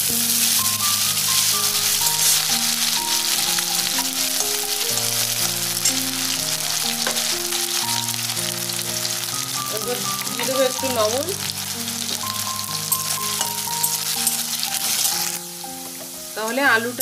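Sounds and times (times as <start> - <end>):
potato sizzling in hot oil: 0.0 - 17.0.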